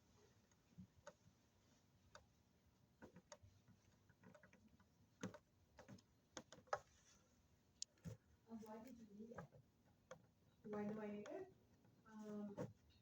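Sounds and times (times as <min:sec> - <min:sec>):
faint clicks and taps: 0:00.3 - 0:13.0.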